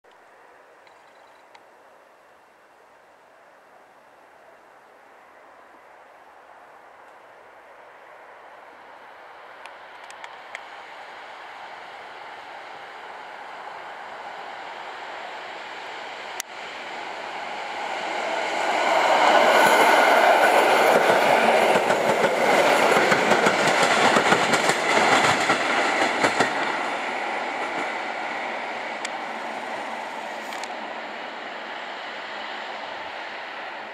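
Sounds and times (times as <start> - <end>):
electric train passing: 0.3 - 33.9.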